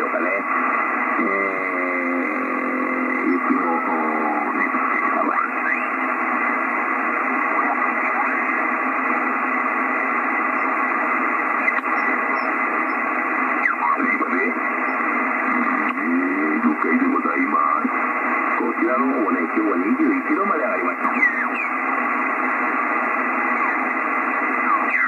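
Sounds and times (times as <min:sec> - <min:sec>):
garbled radio voices: 0:00.0 - 0:25.0
radio band hiss: 0:00.0 - 0:25.0.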